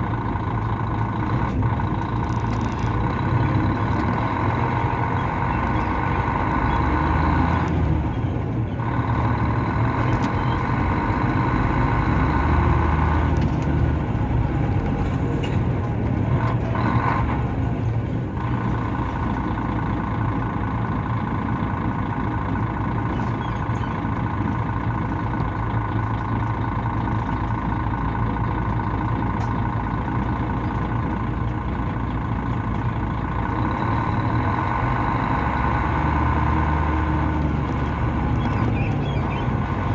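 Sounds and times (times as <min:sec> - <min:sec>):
diesel engine drone: 0:00.0 - 0:39.9
engine whine: 0:00.0 - 0:39.9.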